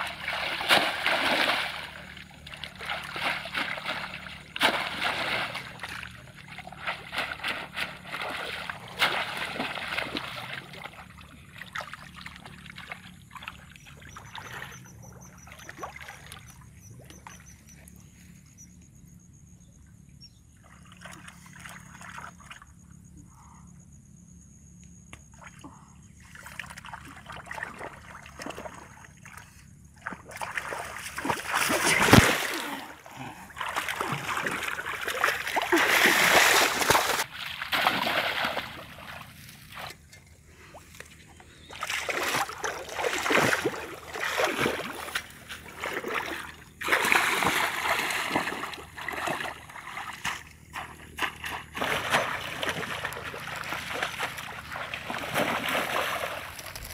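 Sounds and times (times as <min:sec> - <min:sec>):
muddy water splashing: 0:00.0 - 0:18.4, 0:20.6 - 0:22.7, 0:25.3 - 0:56.9.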